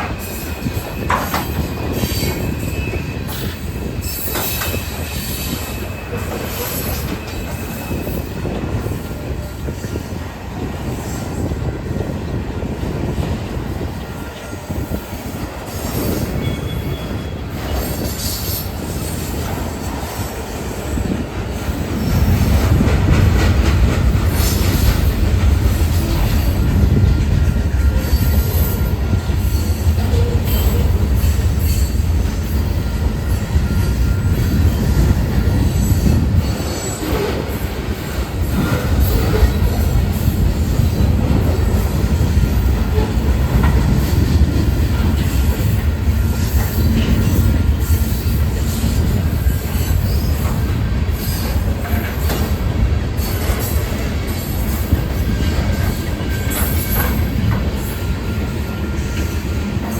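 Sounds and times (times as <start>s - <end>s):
train rumble: 0.0s - 59.9s
train wheels squealing: 0.0s - 59.9s.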